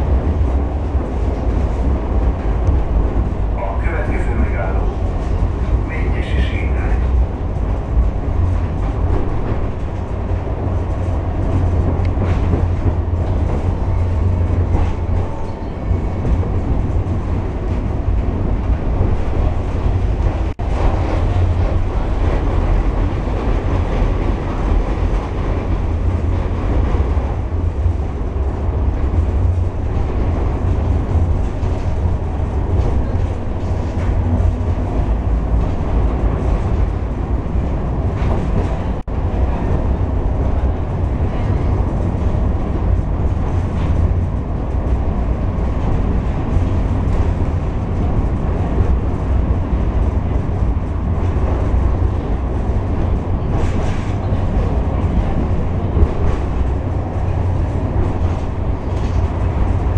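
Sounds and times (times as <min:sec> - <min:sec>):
tram rumbling: 0:00.0 - 0:59.9.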